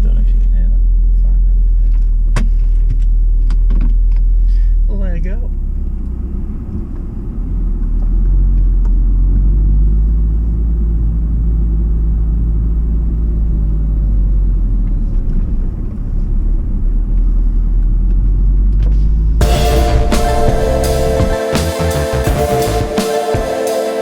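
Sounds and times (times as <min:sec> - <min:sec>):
road rumble: 0:00.0 - 0:24.0
car engine droning: 0:03.4 - 0:24.0.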